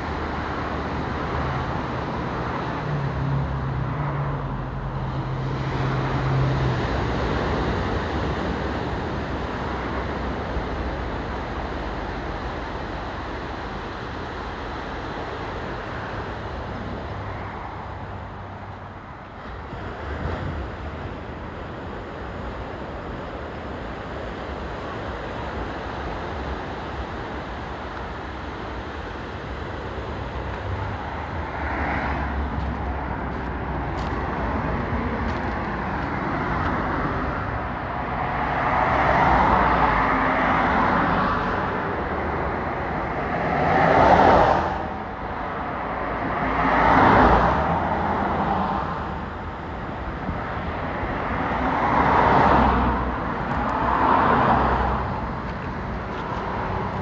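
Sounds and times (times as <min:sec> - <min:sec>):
cars passing: 0:00.0 - 0:57.0
surf: 0:00.0 - 0:57.0
wind: 0:00.0 - 0:57.0.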